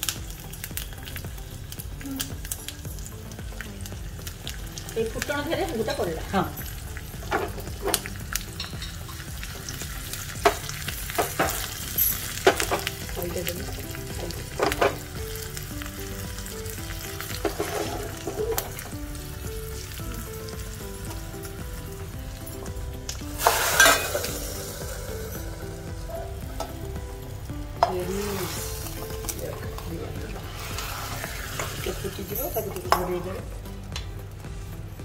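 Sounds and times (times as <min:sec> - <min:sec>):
oil sizzling in pan: 0:00.0 - 0:35.0.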